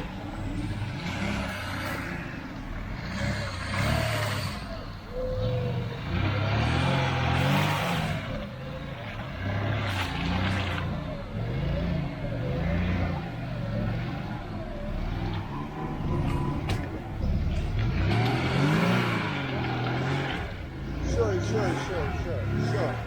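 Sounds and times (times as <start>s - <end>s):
off-road engine revving: 0.0s - 23.0s.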